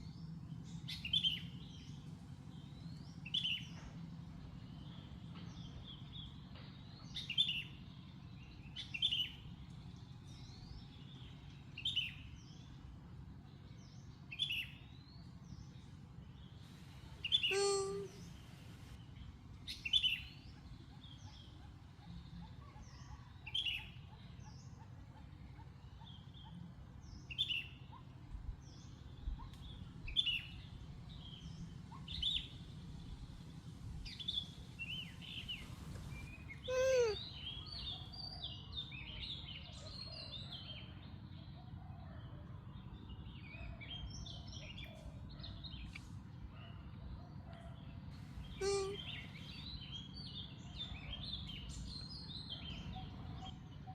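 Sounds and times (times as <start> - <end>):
birds chirping: 0.0 - 41.6, 42.5 - 53.9
low background rumble: 0.0 - 53.9.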